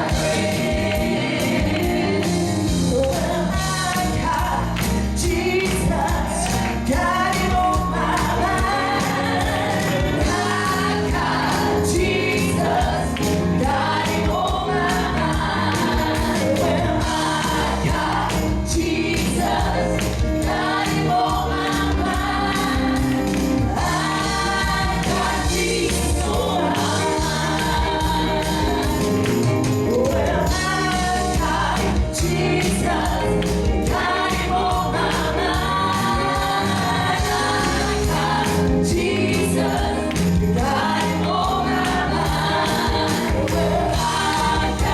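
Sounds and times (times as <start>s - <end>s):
gospel group singing: 0.0s - 44.9s
live band with steady beat: 0.0s - 44.9s.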